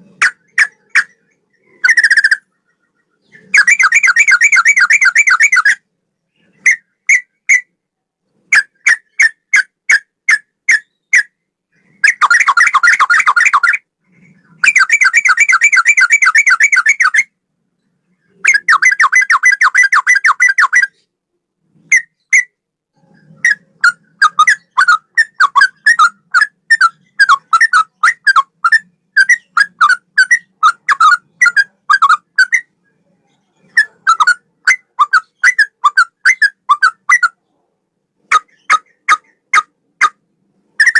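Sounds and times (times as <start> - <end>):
bulbul singing: 0.0 - 7.7, 8.5 - 21.1, 21.9 - 37.5.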